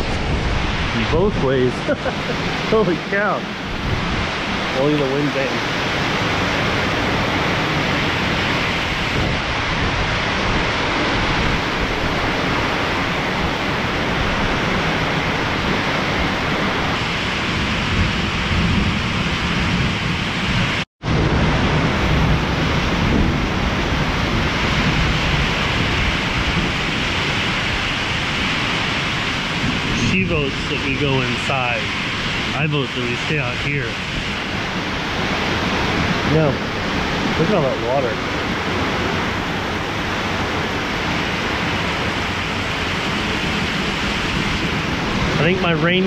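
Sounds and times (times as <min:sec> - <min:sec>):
heavy rain driven by wind: 0:00.0 - 0:46.0
low thunder rumble: 0:00.0 - 0:46.0.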